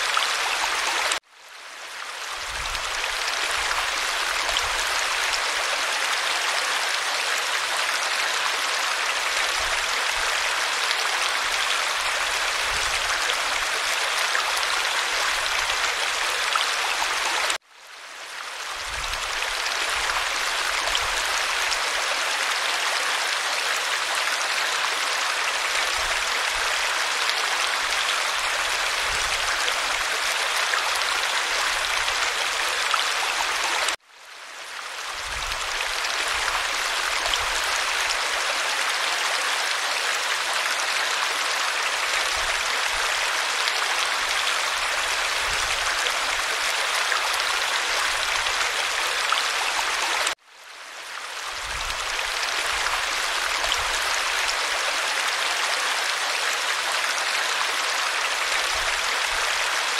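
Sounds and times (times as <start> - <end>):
stream cascading into pool: 0.0 - 1.3, 2.0 - 17.7, 18.5 - 34.0, 34.8 - 50.4, 51.0 - 59.9.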